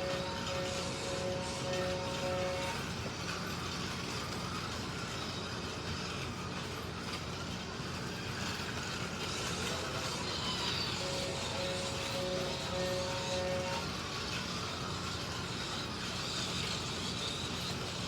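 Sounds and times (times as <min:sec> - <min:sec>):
slot car motors whirring: 0:00.0 - 0:18.0.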